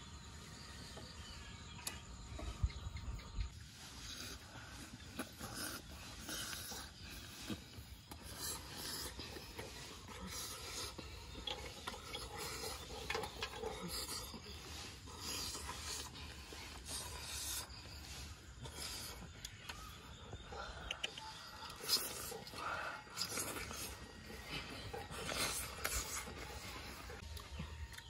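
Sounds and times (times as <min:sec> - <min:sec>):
raspy crunchy chewing: 0:03.5 - 0:28.0.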